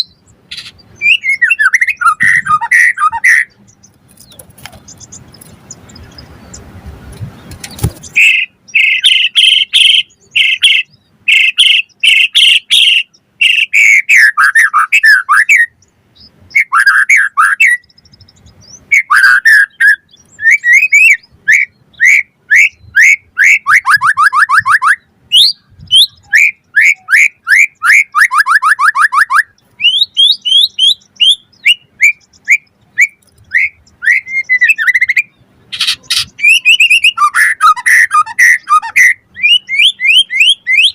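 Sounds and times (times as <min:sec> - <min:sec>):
bird singing whistles: 0:00.0 - 0:03.6, 0:07.7 - 0:15.8, 0:16.5 - 0:40.9.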